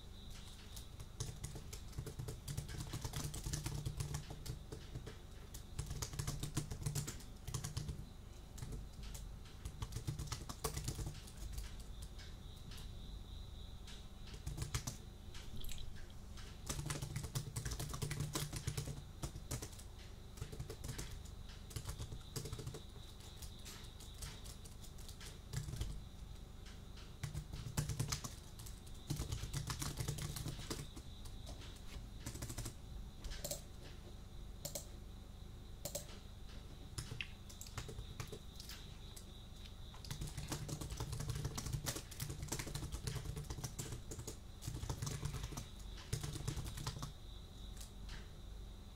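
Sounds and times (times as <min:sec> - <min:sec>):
computer keyboard typing: 0:00.3 - 0:12.9, 0:13.9 - 0:34.0, 0:34.6 - 0:34.9, 0:35.8 - 0:36.2, 0:37.0 - 0:39.3, 0:39.9 - 0:47.2.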